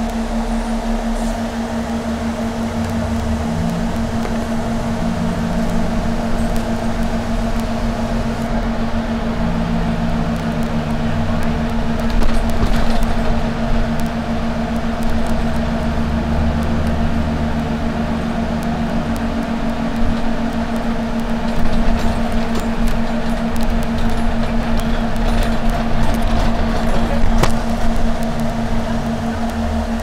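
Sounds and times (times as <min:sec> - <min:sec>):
train car humming: 0:00.0 - 0:30.0.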